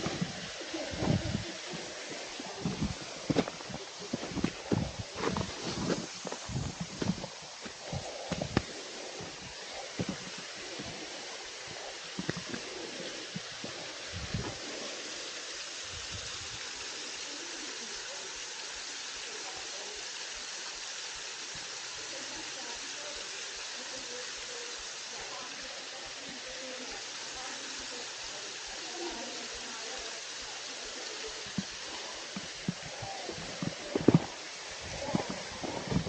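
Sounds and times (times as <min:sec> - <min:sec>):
waterfall rushing: 0:00.0 - 0:20.0, 0:22.0 - 0:36.0.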